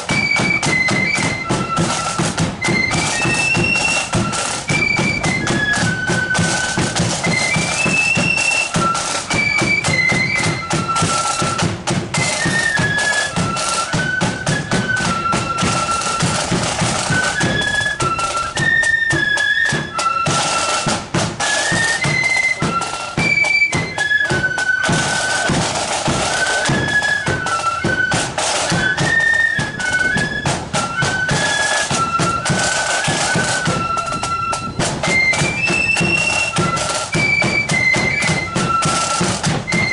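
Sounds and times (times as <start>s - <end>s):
flute melody: 0.0s - 39.9s
snare drum beats: 0.0s - 39.9s.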